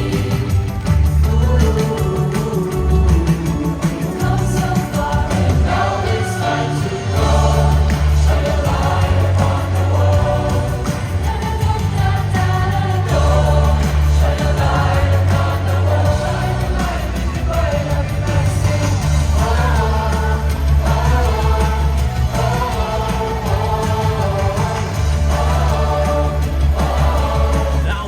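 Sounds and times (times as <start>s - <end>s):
pop song with group vocals: 0.0s - 28.0s
pulsing bass line: 0.0s - 28.0s.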